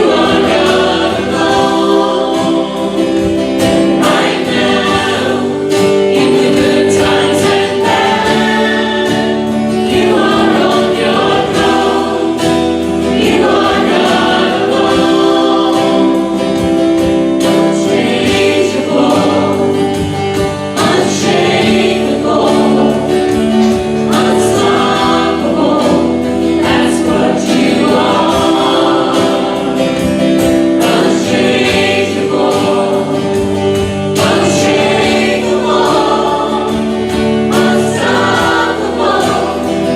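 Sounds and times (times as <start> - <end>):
choir singing a hymn: 0.0 - 39.9
instrumental accompaniment: 0.0 - 39.9.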